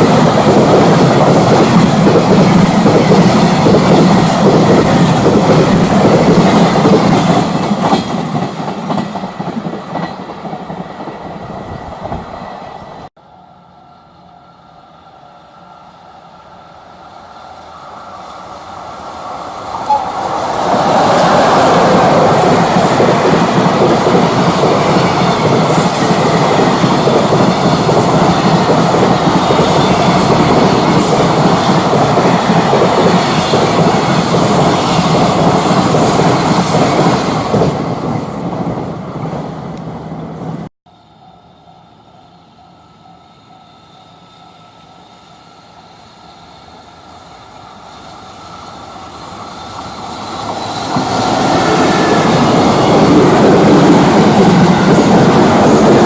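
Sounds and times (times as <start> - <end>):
freight train passing: 0.0 - 56.0
train approaching: 0.0 - 56.0.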